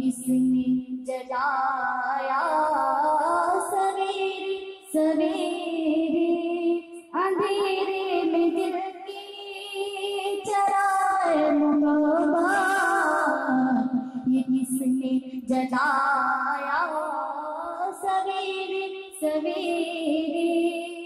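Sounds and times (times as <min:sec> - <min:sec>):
girl singing devotional hymn: 0:00.0 - 0:21.0.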